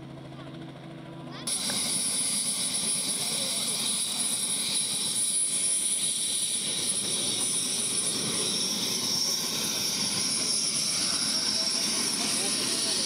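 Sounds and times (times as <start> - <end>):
helicopter turbine engine running: 0.0 - 13.0.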